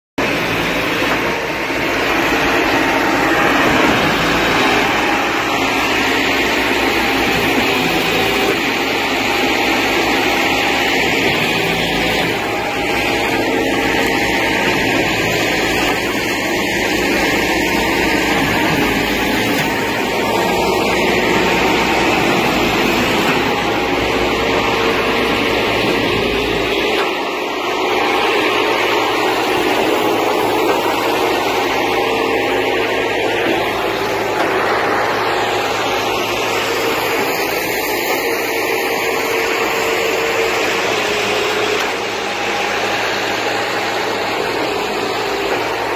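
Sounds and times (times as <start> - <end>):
concrete pump machine drone: 0.2 - 45.9.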